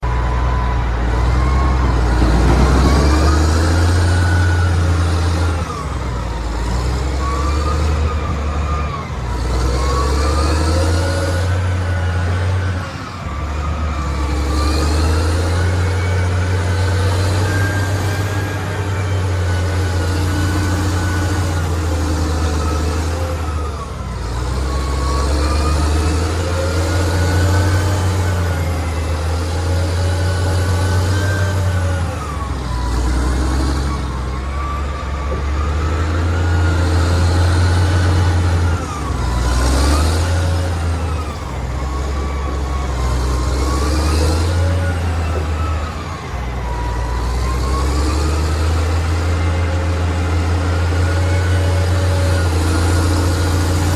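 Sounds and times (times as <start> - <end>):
excavator diesel engine under load: 0.0 - 53.9
hydraulic whine: 0.0 - 53.9.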